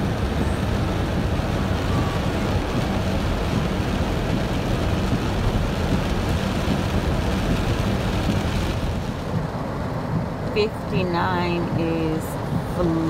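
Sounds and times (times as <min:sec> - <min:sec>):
car cabin rumble in heavy rain: 0:00.0 - 0:13.0.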